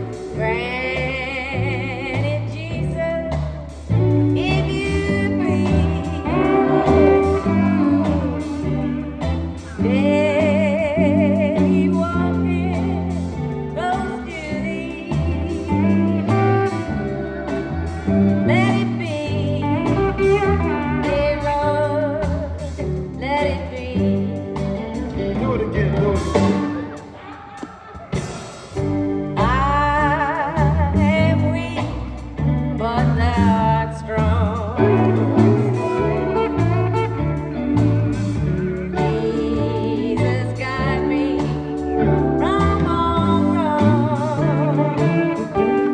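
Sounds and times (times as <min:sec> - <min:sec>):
person singing with vibrato: 0:00.0 - 0:28.8, 0:29.4 - 0:45.9
gospel band playing: 0:00.0 - 0:45.9.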